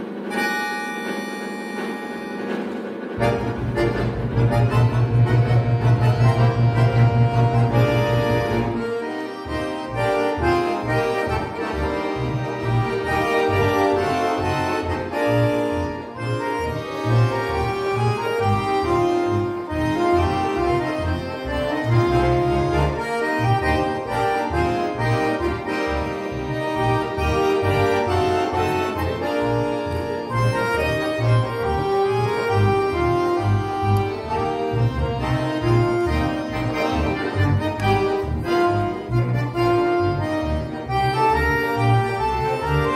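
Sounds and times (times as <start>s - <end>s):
accordions playing: 0.0s - 42.9s
low bass pulse: 2.4s - 42.9s.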